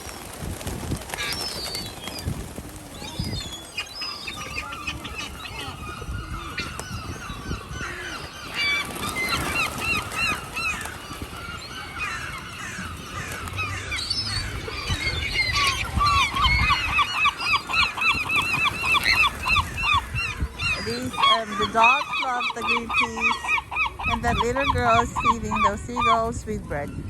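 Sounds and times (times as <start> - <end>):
birds honking calls: 3.0 - 27.0.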